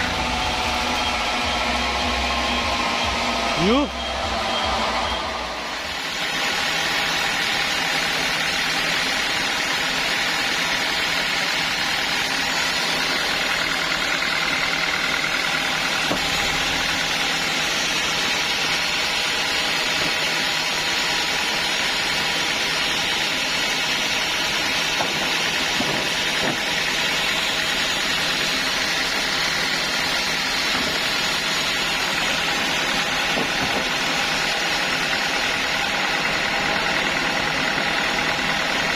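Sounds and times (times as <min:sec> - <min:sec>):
sawmill saw running: 0:00.0 - 0:38.9.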